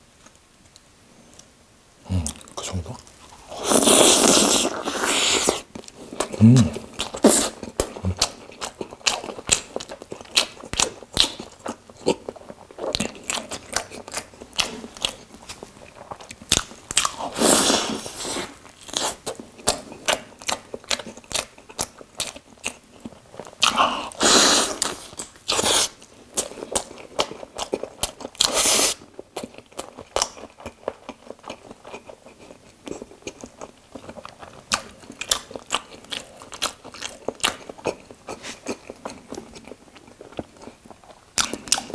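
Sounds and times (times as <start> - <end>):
mouth chewing sandwich: 0.2 - 41.9.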